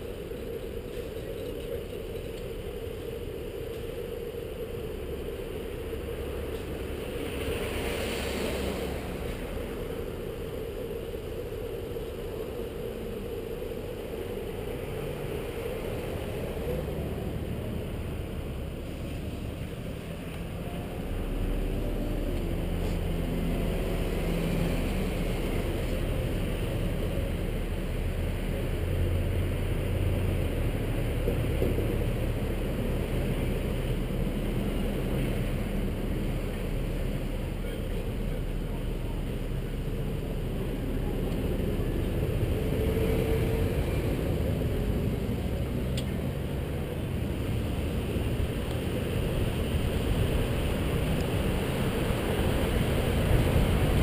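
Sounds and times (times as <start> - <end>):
engine hum: 0.0 - 54.0
vehicles idling and passing: 0.0 - 54.0
wind on microphone: 0.0 - 54.0.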